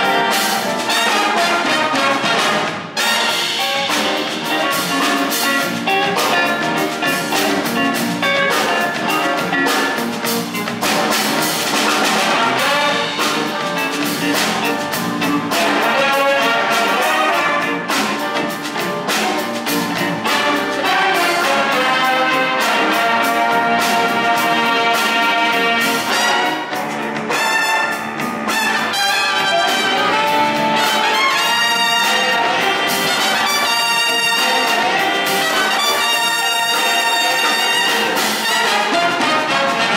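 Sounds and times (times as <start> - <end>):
big jazz band playing funk: 0.0 - 39.9
steady drum beat: 0.0 - 39.9.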